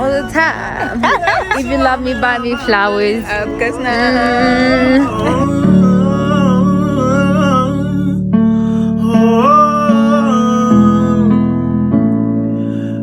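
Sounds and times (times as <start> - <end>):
guitar song with singing: 0.0 - 13.0.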